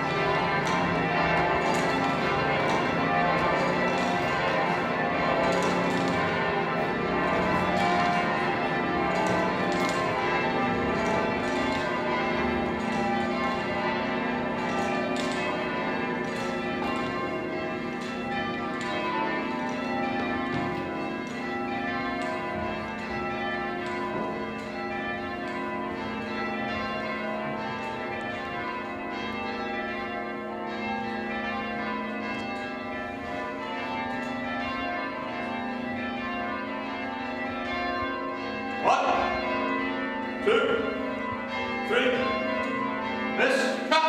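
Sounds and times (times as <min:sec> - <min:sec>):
church bells change ringing: 0:00.0 - 0:44.0.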